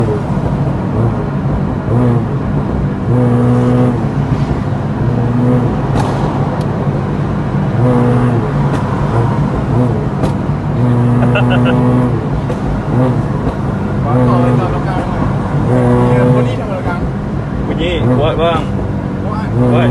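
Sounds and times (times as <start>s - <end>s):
car engine revving: 0.0s - 19.9s
exhaust pops: 0.0s - 19.9s.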